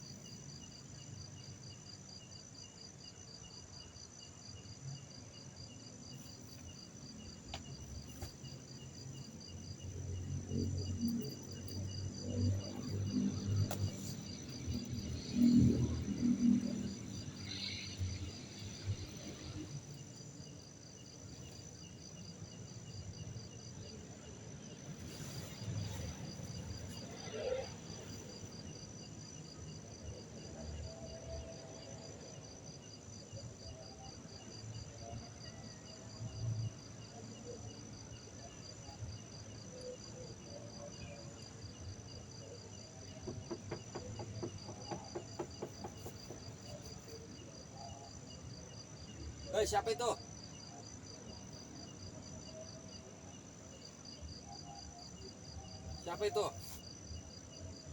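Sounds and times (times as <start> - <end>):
insects chirring: 0.0 - 30.3, 35.7 - 57.9.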